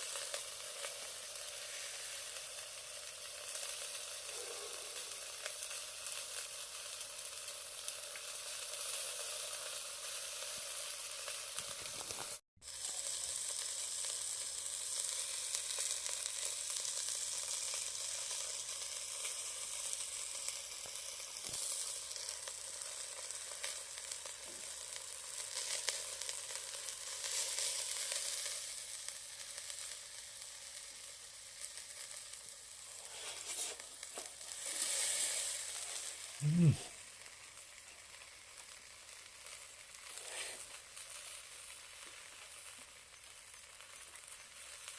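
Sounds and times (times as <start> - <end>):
meat sizzling on a charcoal grill: 0.0 - 44.9.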